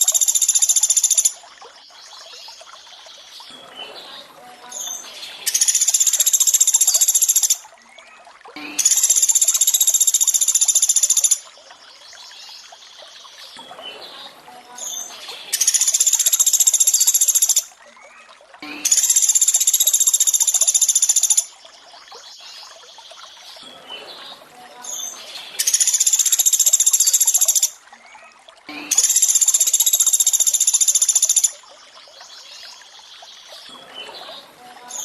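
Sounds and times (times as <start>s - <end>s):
running water: 0.0s - 35.0s.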